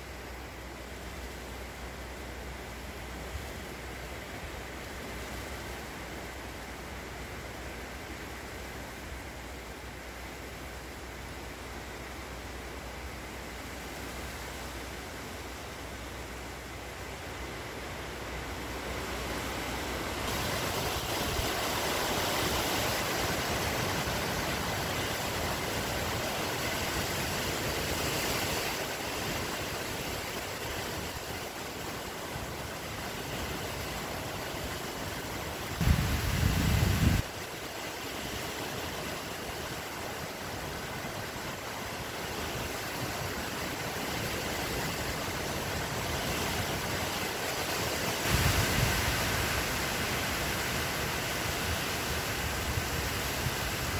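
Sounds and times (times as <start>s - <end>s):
outdoor background hiss: 0.0s - 53.9s.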